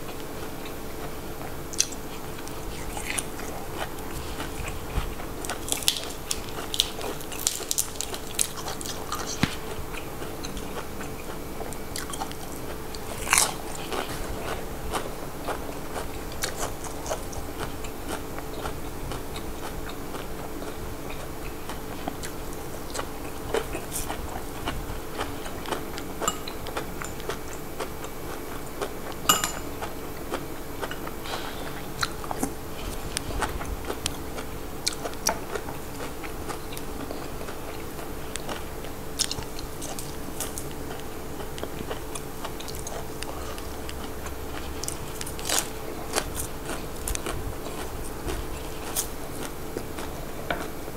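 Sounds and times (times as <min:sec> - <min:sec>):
person chewing crunchy vegetables: 0:00.0 - 0:50.9
steady low hum: 0:00.0 - 0:50.9.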